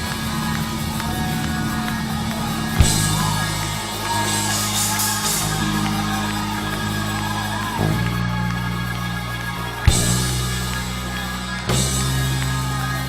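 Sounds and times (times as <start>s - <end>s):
church band music: 0.0s - 13.0s
cymbal wash: 0.0s - 13.0s.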